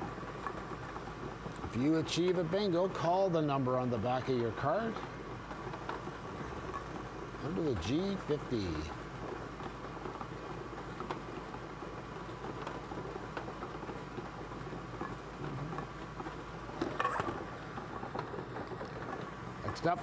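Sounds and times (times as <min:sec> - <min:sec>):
ball clattering: 0:00.0 - 0:20.0
blower air noise: 0:00.0 - 0:20.0.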